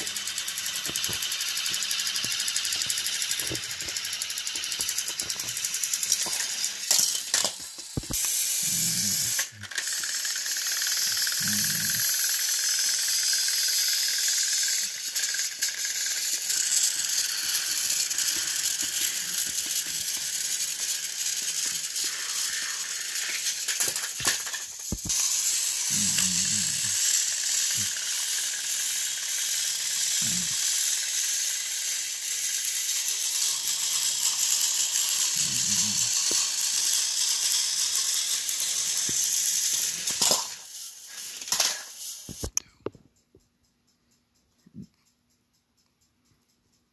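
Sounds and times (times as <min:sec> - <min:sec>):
high-pitched hiss and rattle: 0:00.0 - 0:42.6
toy train motors whirring: 0:00.0 - 0:46.9.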